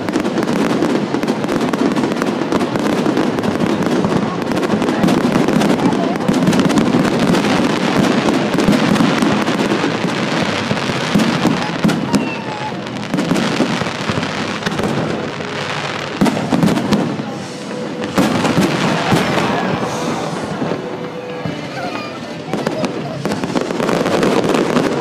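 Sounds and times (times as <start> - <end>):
firework crackling: 0.0 - 25.0.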